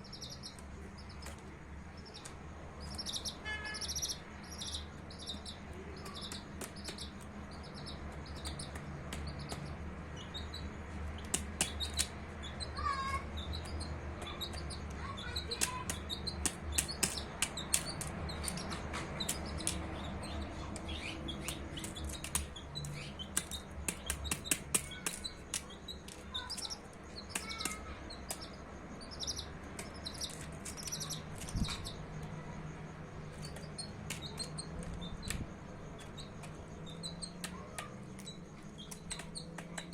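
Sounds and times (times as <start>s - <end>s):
baby chicks peeping: 0.0s - 39.9s
beaks pecking at food: 0.0s - 39.9s.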